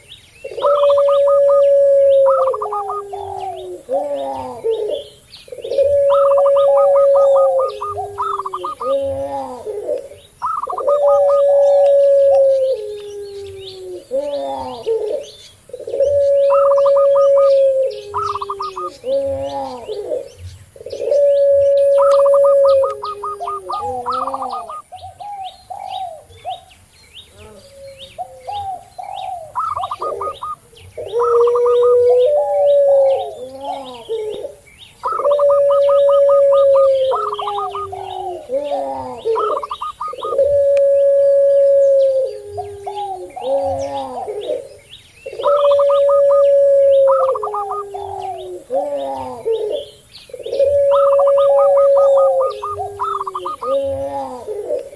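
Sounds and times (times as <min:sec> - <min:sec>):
doves cooing: 0:00.0 - 0:54.9
small birds chirping: 0:00.0 - 0:54.9.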